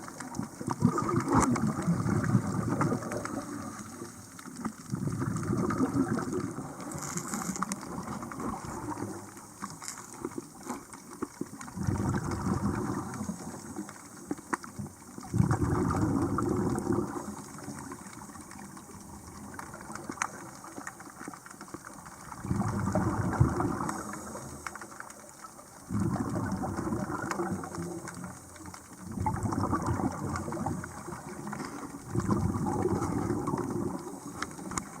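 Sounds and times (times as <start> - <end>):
scuba regulator bubbles underwater: 0.0 - 35.0.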